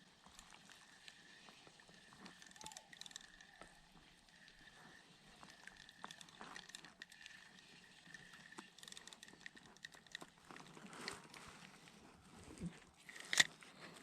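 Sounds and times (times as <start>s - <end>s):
small ticks: 0.0s - 11.5s.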